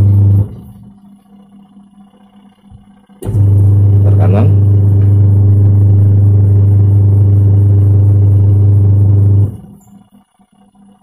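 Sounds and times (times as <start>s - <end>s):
motor whine spinning up: 0.0s - 11.0s
washing machine motor hum: 0.0s - 11.0s.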